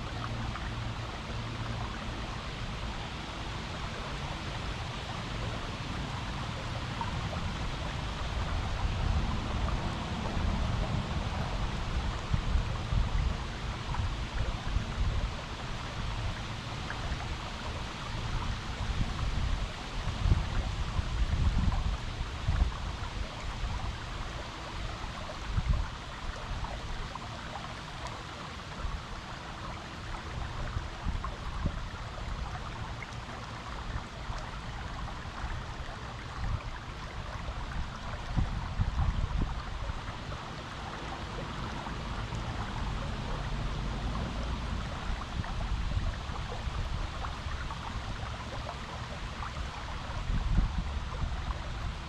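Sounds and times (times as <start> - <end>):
stream water running over rocks: 0.0 - 52.0.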